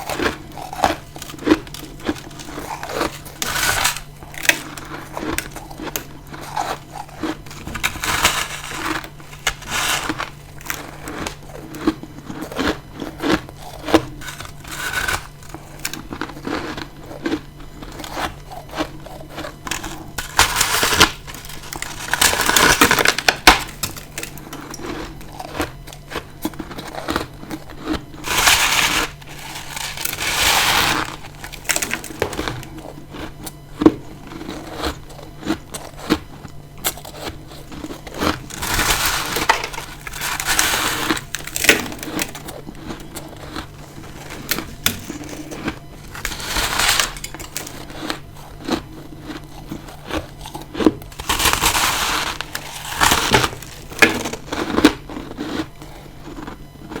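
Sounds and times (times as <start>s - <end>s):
crunchy bites into frost: 0.0s - 57.0s.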